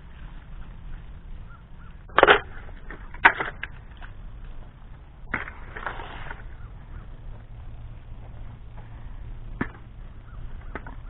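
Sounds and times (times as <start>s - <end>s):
sharp crunching cracks: 0.0s - 11.0s.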